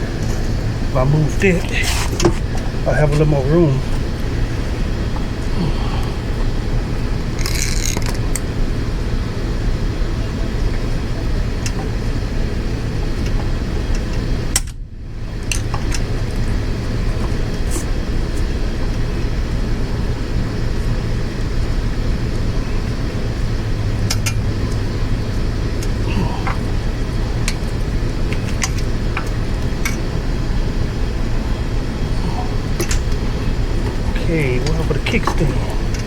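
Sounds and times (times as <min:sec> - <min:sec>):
low background rumble: 0:00.0 - 0:36.0.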